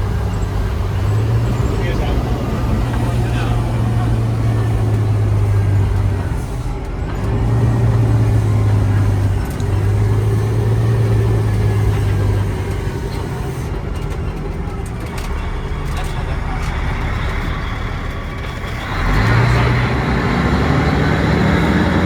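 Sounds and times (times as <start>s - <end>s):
truck engine drone: 0.0s - 22.0s
tyres rumbling on road: 0.0s - 22.0s.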